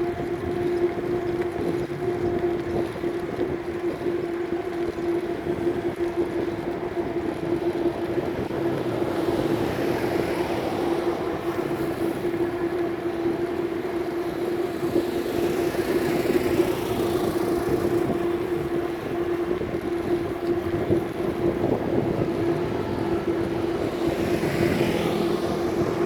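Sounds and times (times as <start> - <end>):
wind and road rush: 0.0 - 26.0.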